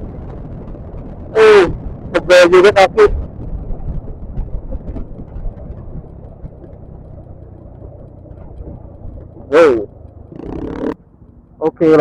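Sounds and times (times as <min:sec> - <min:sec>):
wind noise on microphone: 0:00.0 - 0:11.0
scooter engine rumble: 0:00.0 - 0:12.0.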